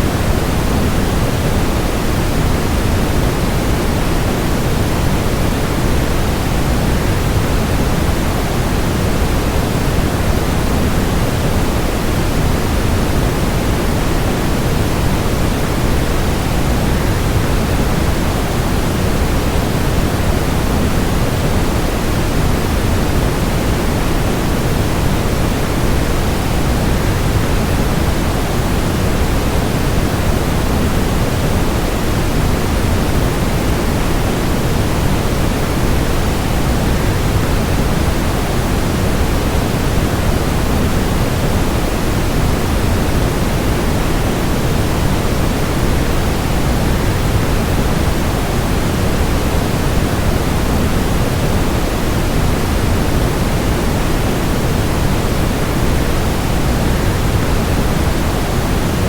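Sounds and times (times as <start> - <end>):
waterfall rush with white noise: 0.0 - 59.0.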